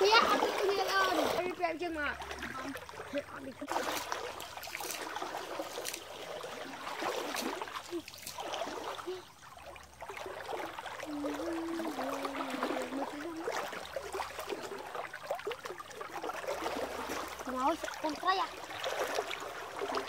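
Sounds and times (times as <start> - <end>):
small water splashes: 0.0 - 20.0
water sloshing around wading legs: 0.0 - 20.0.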